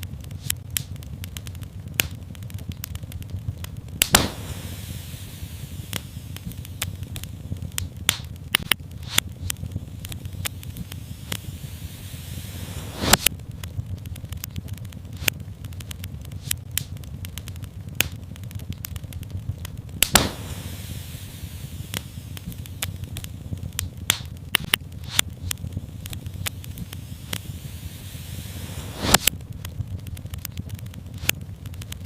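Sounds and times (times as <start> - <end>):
fire popping: 0.0 - 32.0
low rumble: 0.0 - 32.0
soft hiss: 0.0 - 32.0
wood fire crackling: 0.0 - 32.0.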